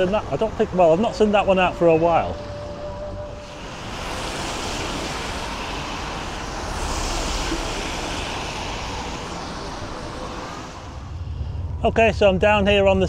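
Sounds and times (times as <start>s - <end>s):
tyres hissing on wet road: 0.0s - 11.5s.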